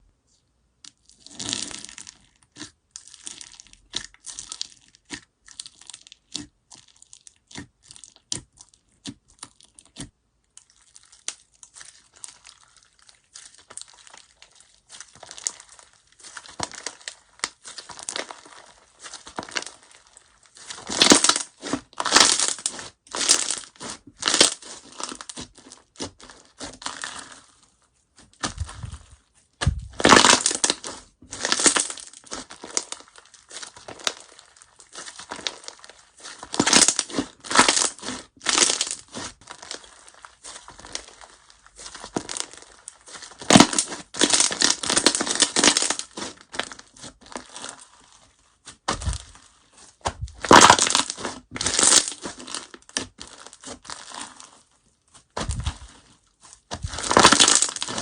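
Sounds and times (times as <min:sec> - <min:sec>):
slime crackling and squishing: 0:00.3 - 0:58.0.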